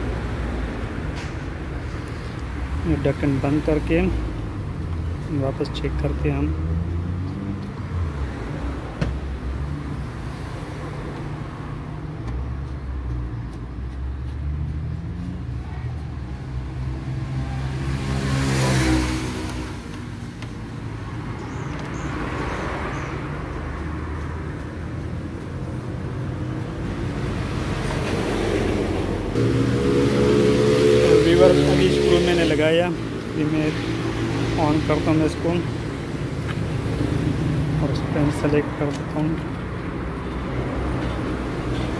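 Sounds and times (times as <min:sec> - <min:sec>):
vehicle engine rumble: 0:00.0 - 0:41.9.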